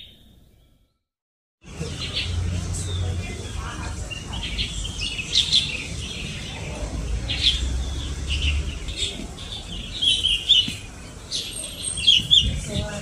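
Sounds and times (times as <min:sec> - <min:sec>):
songbirds chirping: 0:00.0 - 0:01.0, 0:01.6 - 0:13.0.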